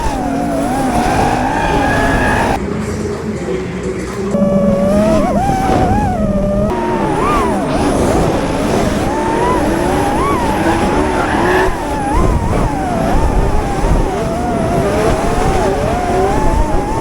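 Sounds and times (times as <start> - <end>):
car engine at high revs: 0.0 - 2.6, 4.4 - 17.0
tyre and engine rush: 0.0 - 2.6, 4.3 - 17.0.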